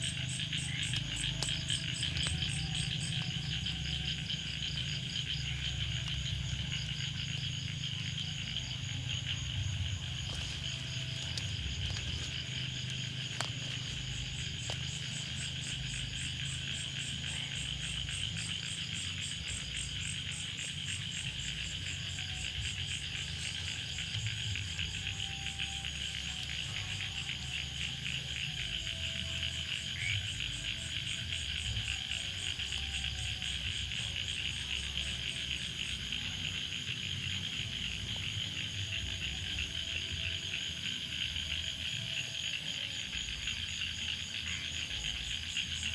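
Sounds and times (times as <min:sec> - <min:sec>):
frogs and insects trilling: 0:00.0 - 0:45.9.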